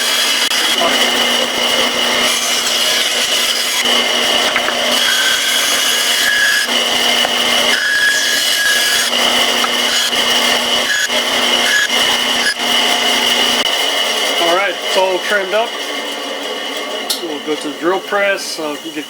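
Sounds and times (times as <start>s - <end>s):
bandsaw cutting wood: 0.0s - 15.6s.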